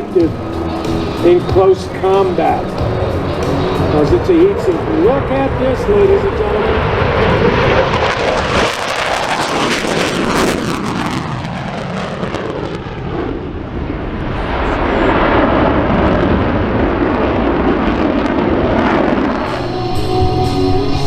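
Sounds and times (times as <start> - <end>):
fighter jet flyby: 0.0 - 21.0.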